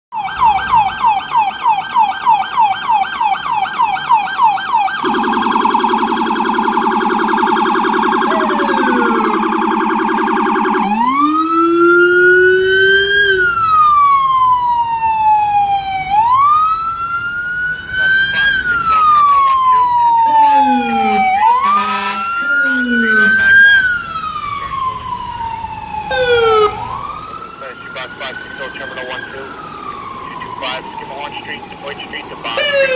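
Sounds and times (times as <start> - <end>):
fire engine siren: 0.1 - 32.9.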